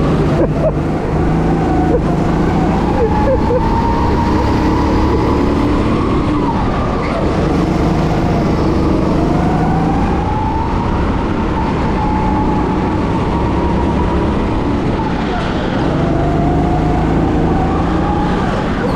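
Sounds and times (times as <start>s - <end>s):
go-kart engine whining: 0.0s - 18.9s.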